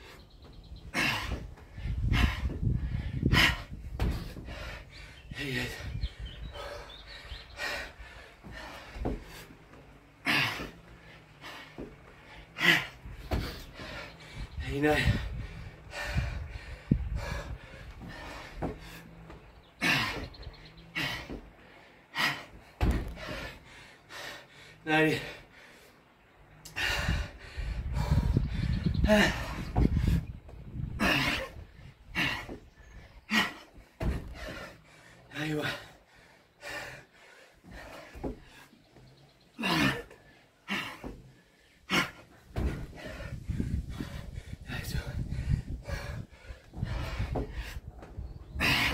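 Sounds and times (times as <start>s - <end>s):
man gasping breaths: 0.0s - 48.9s
man panting: 0.0s - 48.9s.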